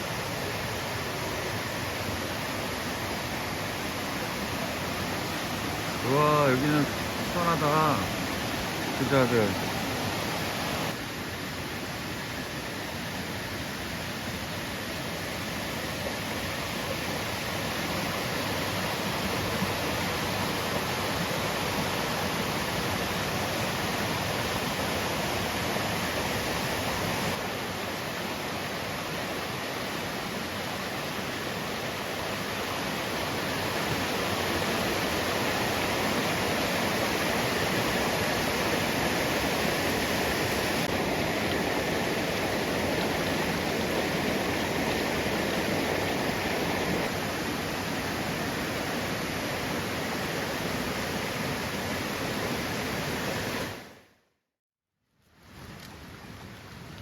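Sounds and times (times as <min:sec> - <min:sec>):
water rushing: 0:00.0 - 0:54.1.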